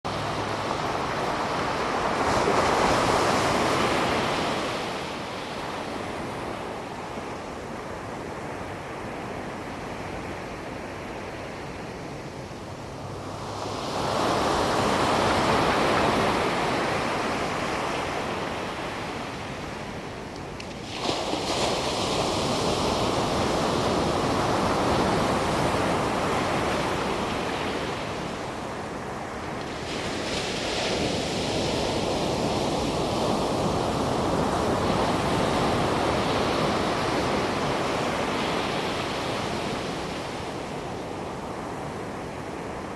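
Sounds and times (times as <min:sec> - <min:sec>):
ocean surf on beach: 0:00.0 - 0:42.9.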